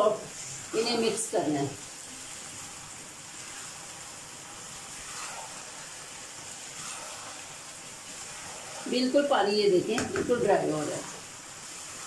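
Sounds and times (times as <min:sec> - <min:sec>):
rice sizzling in wok: 0:00.0 - 0:12.0
spatula stirring: 0:00.0 - 0:12.0.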